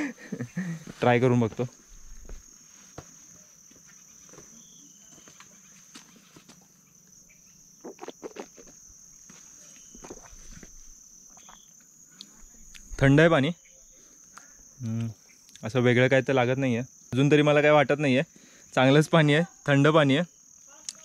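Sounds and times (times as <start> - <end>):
high-pitched insect chirring: 0.0 - 21.0.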